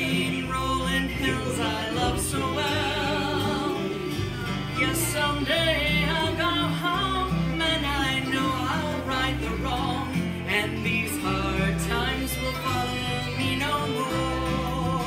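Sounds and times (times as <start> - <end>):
fiddle: 0.0 - 15.0
harmonica lead: 0.0 - 15.0
low bass notes: 0.0 - 15.0
mandolin: 0.0 - 15.0
strummed acoustic guitars: 0.0 - 15.0.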